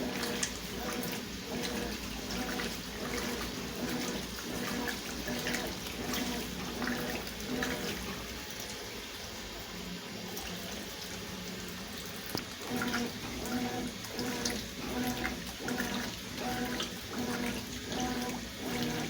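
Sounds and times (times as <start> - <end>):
water sloshing in washing machine: 0.0 - 19.0.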